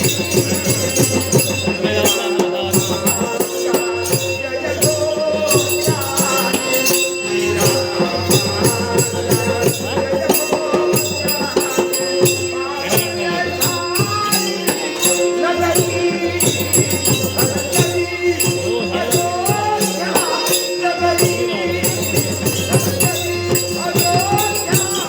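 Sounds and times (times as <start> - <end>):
fast drum strokes: 0.0 - 25.0
harmonium tones: 0.0 - 25.0
jingling metal percussion: 0.0 - 25.0.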